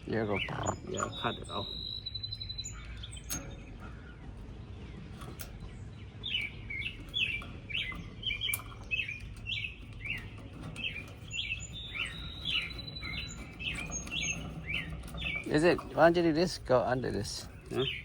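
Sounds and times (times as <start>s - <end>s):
small bird chirping: 0.0s - 18.0s
steady low rumble: 0.0s - 18.0s.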